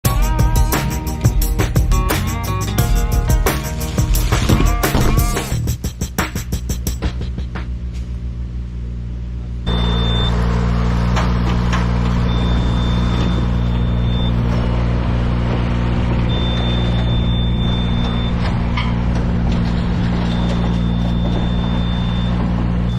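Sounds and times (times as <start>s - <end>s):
engine running steadily: 0.1s - 22.9s.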